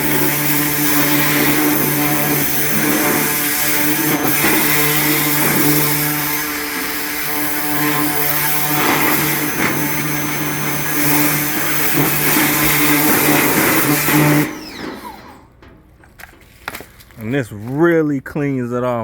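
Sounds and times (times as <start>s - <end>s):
pressure washer spraying: 0.0s - 15.4s.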